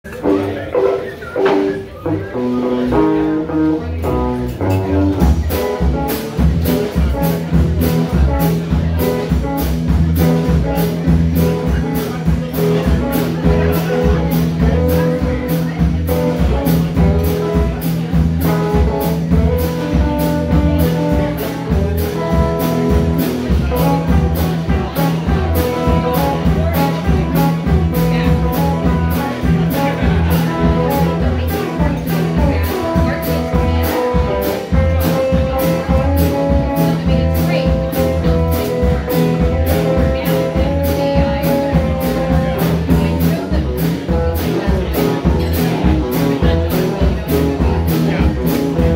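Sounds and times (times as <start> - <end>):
drum kit steady beat: 0.1 - 48.9
electric guitars: 0.1 - 48.9.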